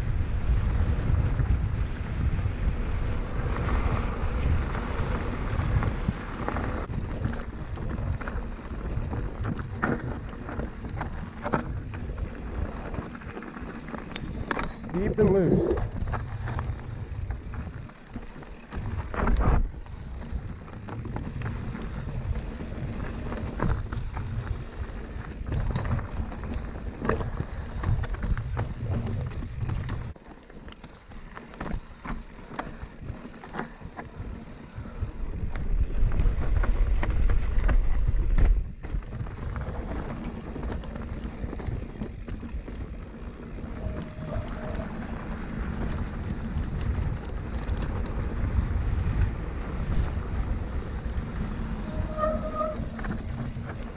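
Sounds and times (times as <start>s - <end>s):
wind buffeting microphone: 0.0s - 30.4s, 31.2s - 53.9s
bike tyres on dirt and rock: 0.0s - 53.9s
bike frame rattling: 6.6s - 48.5s, 50.4s - 53.9s.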